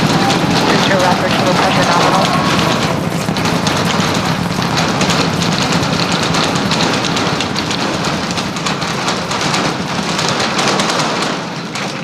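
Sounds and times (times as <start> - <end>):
rocket engines crackling rumble: 0.0 - 12.0.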